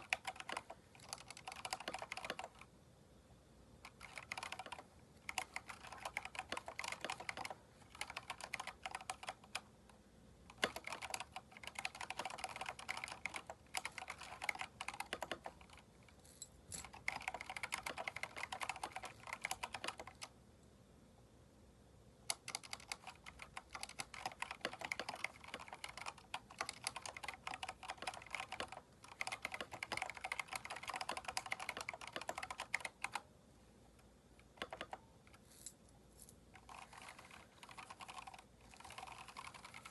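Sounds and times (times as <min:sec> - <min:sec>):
fast typing on mechanical keyboard: 0:00.0 - 0:02.7, 0:03.8 - 0:09.7, 0:10.5 - 0:15.9, 0:16.8 - 0:20.3, 0:22.3 - 0:33.2, 0:34.4 - 0:35.0, 0:36.6 - 0:39.9.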